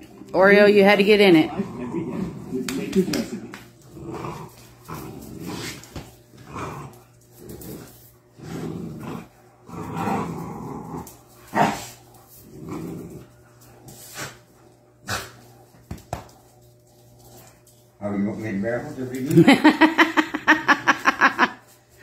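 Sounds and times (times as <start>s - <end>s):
dog play-growling: 0.0s - 21.7s.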